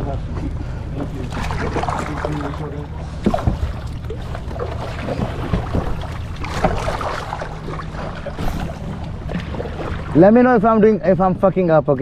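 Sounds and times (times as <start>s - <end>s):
kayak paddles splashing: 1.0s - 10.8s.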